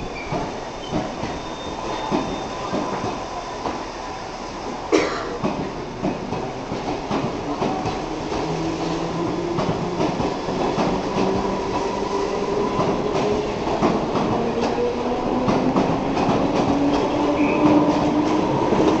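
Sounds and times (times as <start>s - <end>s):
train rumble on rails: 0.0s - 19.0s.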